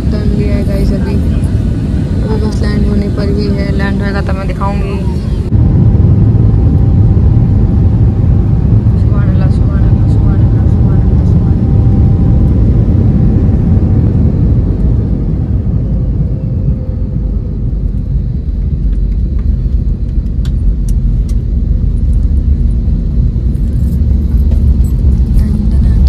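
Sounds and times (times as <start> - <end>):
low rumble of engines and wheels: 0.0 - 26.0.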